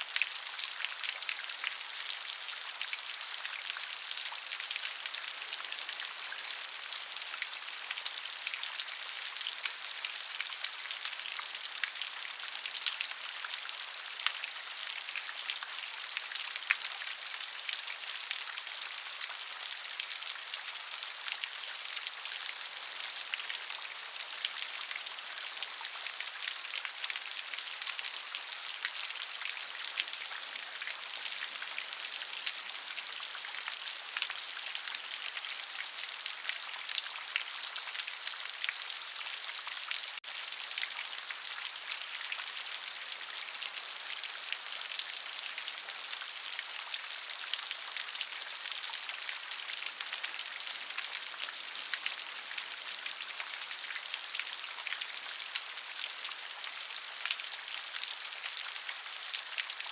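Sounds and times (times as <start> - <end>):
dense rainfall: 0.0 - 59.9.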